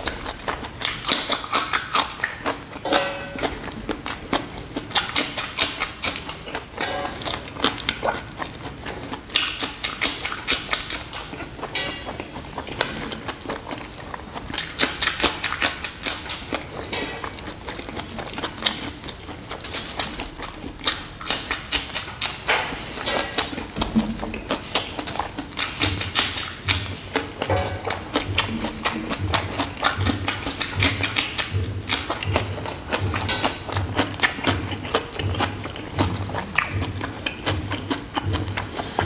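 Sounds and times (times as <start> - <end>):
crunchy chewing: 0.0 - 39.0
wet mouth clicks: 0.0 - 39.0.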